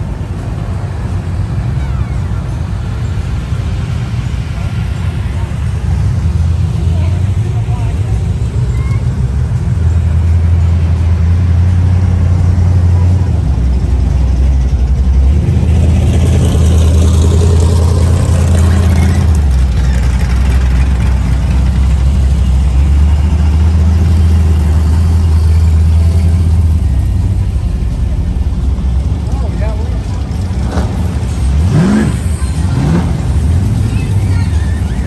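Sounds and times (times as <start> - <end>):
car engine exhaust rumble: 0.0 - 35.0.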